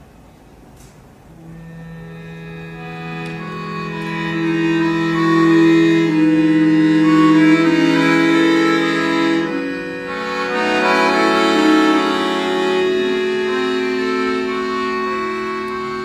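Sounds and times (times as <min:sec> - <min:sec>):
accordion playing held chords: 0:01.3 - 0:16.0.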